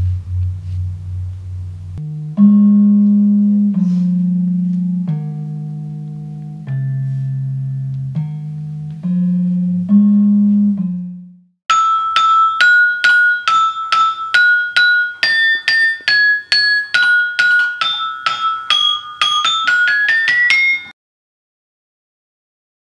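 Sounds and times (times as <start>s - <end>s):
bright ringing metallic notes: 0.0s - 10.9s, 11.7s - 20.9s
low ringing bronze notes: 0.0s - 20.9s.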